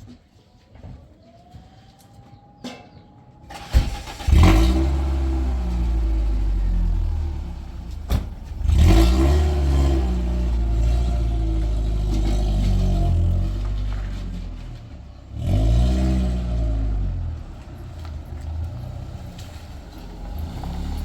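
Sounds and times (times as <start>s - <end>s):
engine starting and revving: 3.5s - 21.0s.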